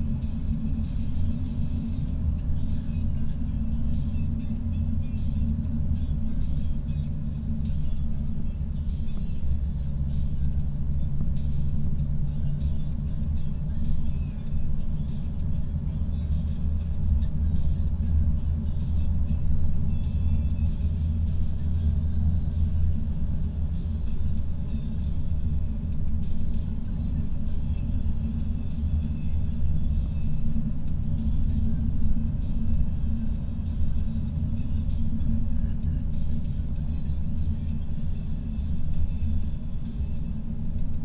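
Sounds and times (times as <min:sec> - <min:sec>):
car driving interior rumble: 0:00.0 - 0:41.0.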